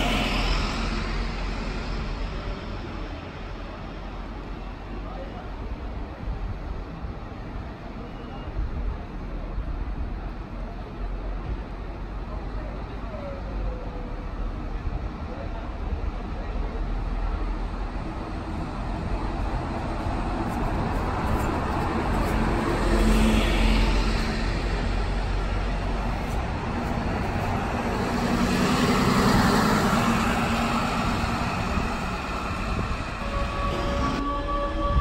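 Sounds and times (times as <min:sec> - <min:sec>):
bus engine passing: 0:00.0 - 0:05.7, 0:10.8 - 0:34.4
street traffic: 0:00.0 - 0:35.0.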